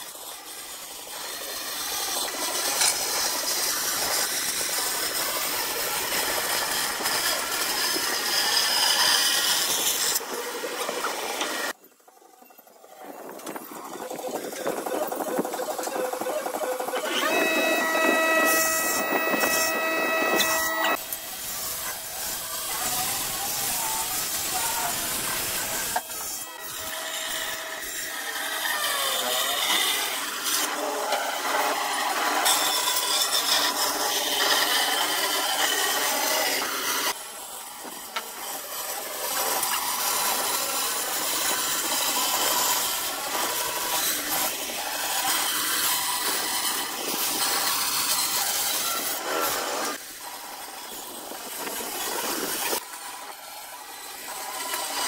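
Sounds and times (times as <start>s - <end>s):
band saw cutting wood: 0.0s - 11.8s, 15.1s - 55.0s
circular saw cutting wood: 0.0s - 11.8s, 13.4s - 55.0s.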